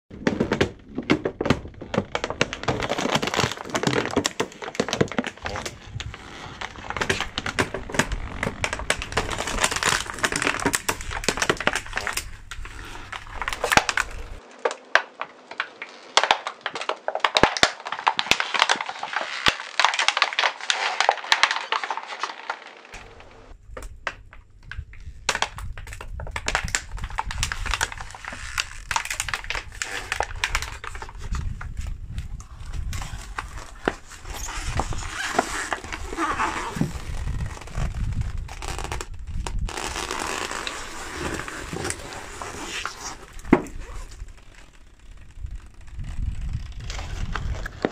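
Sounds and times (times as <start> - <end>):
plastic trays crackling and crunching: 0.1 - 47.9.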